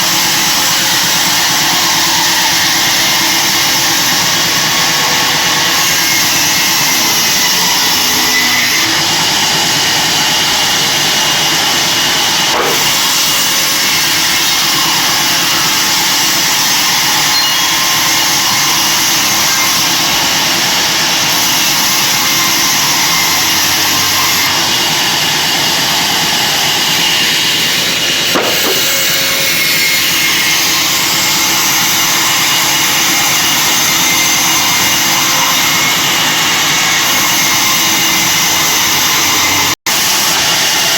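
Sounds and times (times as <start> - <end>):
bandsaw running with whine: 0.0 - 40.9.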